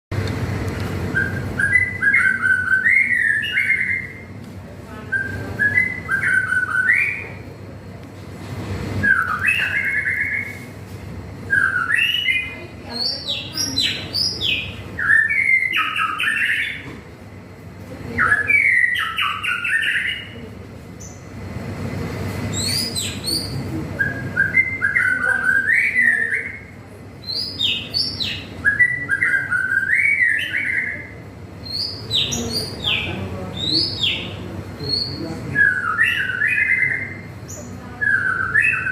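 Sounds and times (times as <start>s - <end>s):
songbird whistling phrases: 1.1s - 4.3s, 5.0s - 7.5s, 9.0s - 10.7s, 11.5s - 16.9s, 18.1s - 20.4s, 22.5s - 38.9s.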